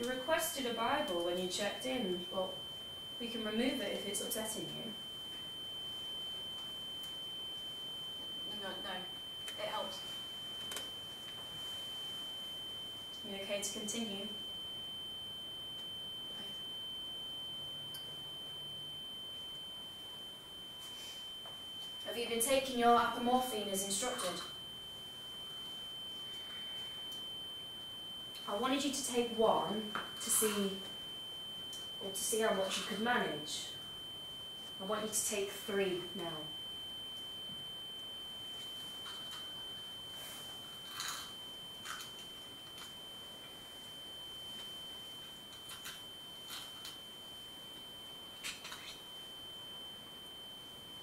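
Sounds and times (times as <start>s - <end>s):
high-pitched ringing tone: 0.0s - 51.0s.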